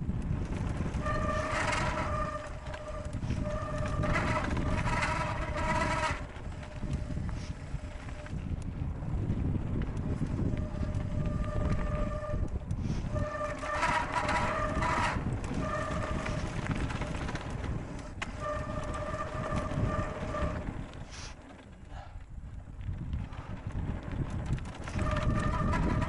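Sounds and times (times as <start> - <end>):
tyres rumbling on gravel: 0.0 - 26.0
wind buffeting microphone: 0.0 - 26.0.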